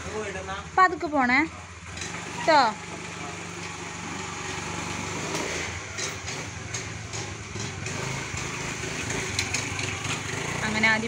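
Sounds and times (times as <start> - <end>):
scooter engine idling and pulling away: 0.0 - 11.0.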